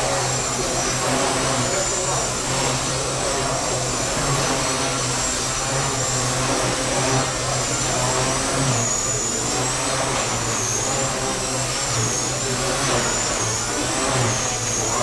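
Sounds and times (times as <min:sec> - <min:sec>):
rc helicopter motor whine: 0:00.0 - 0:15.0
steady low hum: 0:00.0 - 0:15.0.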